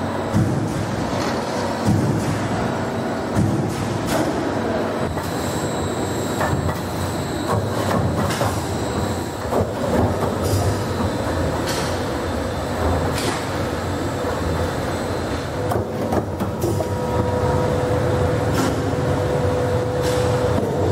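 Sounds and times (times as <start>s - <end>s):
machine hum with high whine: 0.0s - 20.9s.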